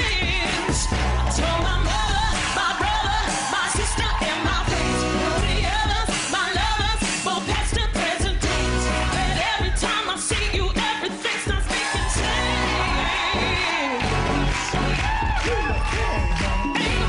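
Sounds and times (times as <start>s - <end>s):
pop song with heavy bass beat: 0.0s - 17.0s.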